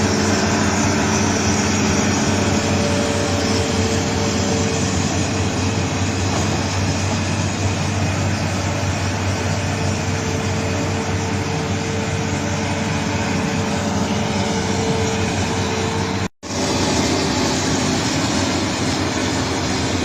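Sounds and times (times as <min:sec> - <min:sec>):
heavy diesel machinery drone: 0:00.0 - 0:20.0.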